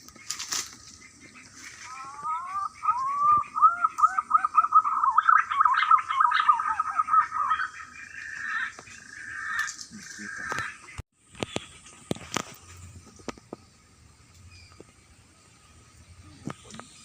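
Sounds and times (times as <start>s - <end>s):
bird singing: 0.0s - 17.0s.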